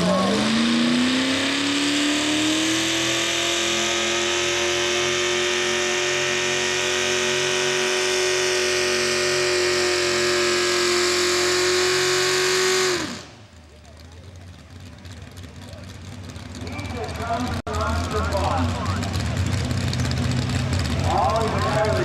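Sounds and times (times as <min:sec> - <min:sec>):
tractor engine at full throttle: 0:00.0 - 0:22.0.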